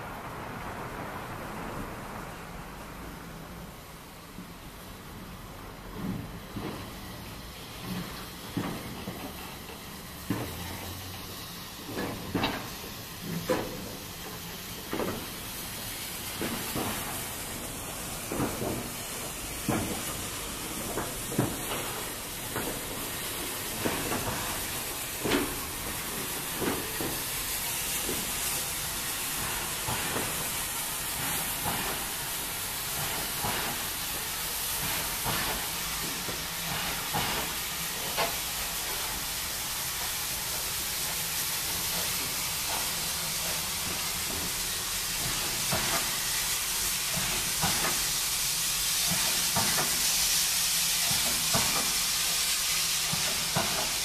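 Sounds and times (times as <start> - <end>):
steam locomotive hissing: 3.3 - 54.0.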